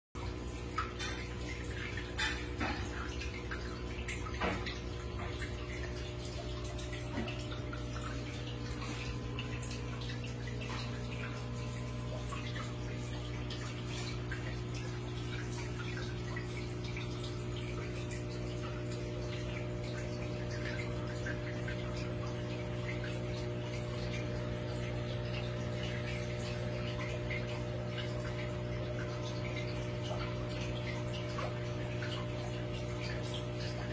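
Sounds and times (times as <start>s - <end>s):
water dripping and trickling: 0.2s - 33.9s.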